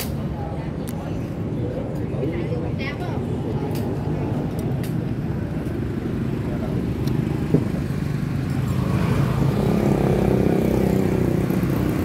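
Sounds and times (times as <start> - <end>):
engine approaching: 0.0 - 12.0
street traffic rumble: 0.0 - 12.0.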